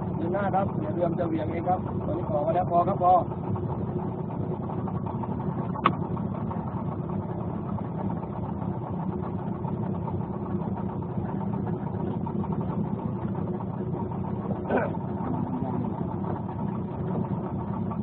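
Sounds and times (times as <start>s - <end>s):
outboard boat motor running: 0.0s - 18.0s.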